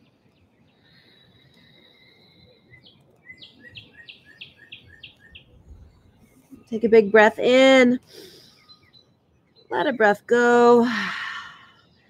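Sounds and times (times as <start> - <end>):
songbird singing faintly: 0.0 - 12.0.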